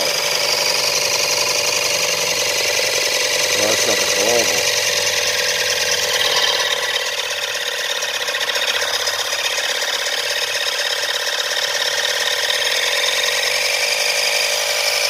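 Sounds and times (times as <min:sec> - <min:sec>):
oil extractor pump running: 0:00.0 - 0:15.0.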